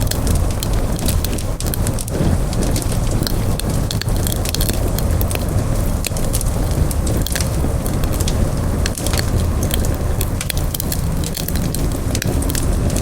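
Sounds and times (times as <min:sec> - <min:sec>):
campfire flames rumbling: 0:00.0 - 0:13.0
wood crackling and popping: 0:00.0 - 0:13.0.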